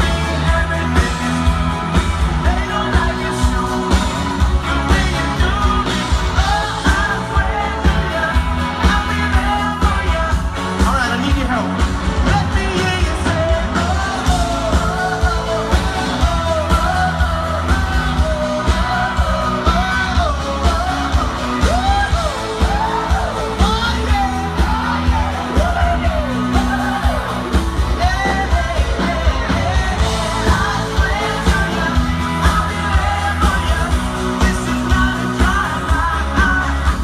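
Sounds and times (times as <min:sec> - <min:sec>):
people singing oh oh: 0:00.0 - 0:10.6, 0:12.3 - 0:37.0
live pop rock band: 0:00.0 - 0:37.0.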